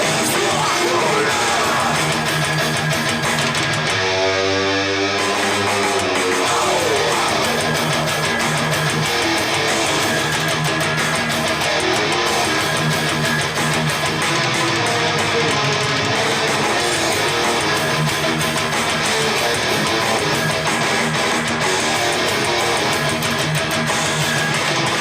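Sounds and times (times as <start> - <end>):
rock music over loudspeakers: 0.0 - 25.0.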